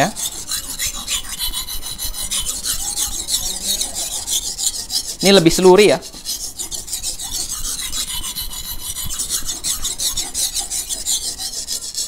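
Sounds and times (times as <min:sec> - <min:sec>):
blade rasping on wet whetstone: 0:00.0 - 0:12.0.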